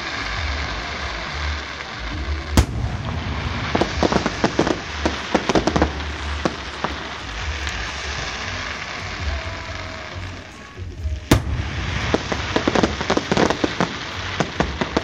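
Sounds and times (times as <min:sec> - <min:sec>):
fireworks crackling pops: 0:00.0 - 0:15.0
steady hiss: 0:00.0 - 0:15.0.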